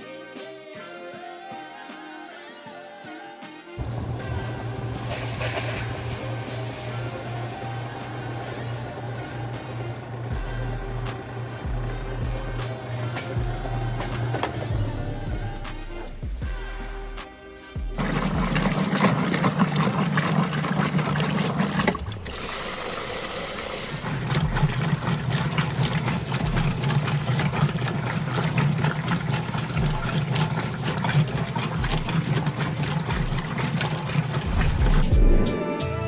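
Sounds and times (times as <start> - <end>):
moving water: 3.8 - 16.4, 18.0 - 35.0
washing machine motor hum: 3.8 - 17.2, 17.8 - 35.2.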